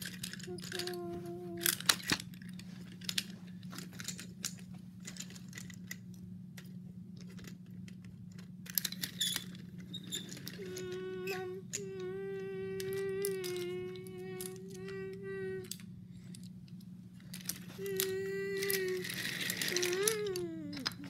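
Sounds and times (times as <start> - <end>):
wooden toy trains clacking: 0.0 - 16.5, 17.3 - 21.0
steady low hum: 0.0 - 21.0.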